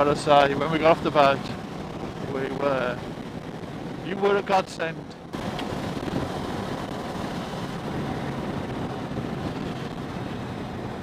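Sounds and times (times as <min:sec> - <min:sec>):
motorcycle engine: 0:00.0 - 0:04.1, 0:05.1 - 0:11.0
road noise: 0:00.0 - 0:11.0
wind rushing over microphone: 0:00.0 - 0:11.0.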